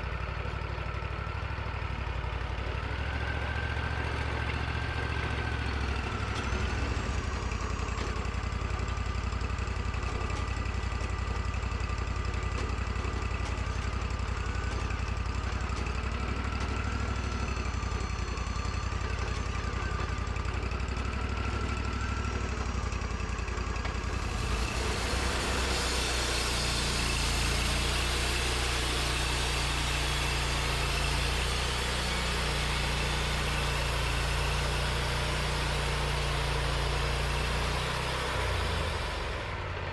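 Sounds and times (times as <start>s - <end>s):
sawmill engine whining: 0.0s - 39.9s.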